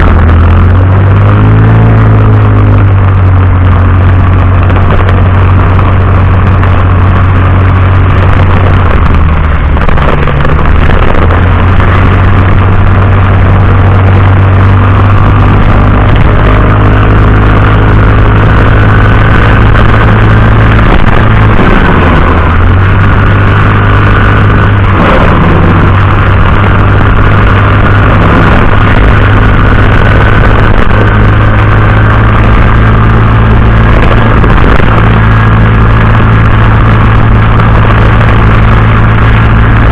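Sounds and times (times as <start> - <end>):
heavy rain: 0.0 - 39.9
road noise: 0.0 - 39.9
vehicle engine hum: 0.0 - 39.9.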